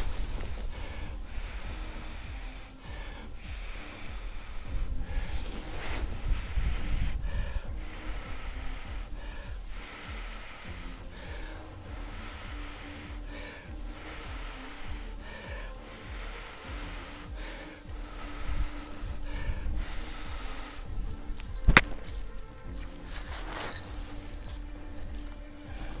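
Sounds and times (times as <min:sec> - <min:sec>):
wind rumble on microphone: 0:00.0 - 0:15.1, 0:17.3 - 0:26.0
man blowing hissing breaths: 0:00.0 - 0:26.0.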